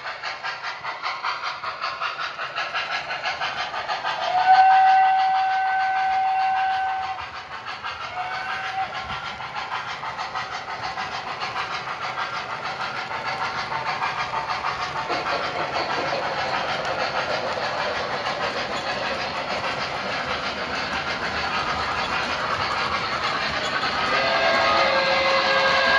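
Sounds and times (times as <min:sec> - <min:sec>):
model steam locomotive chuffing: 0:00.0 - 0:25.9
wheels rumbling on track: 0:00.1 - 0:25.9.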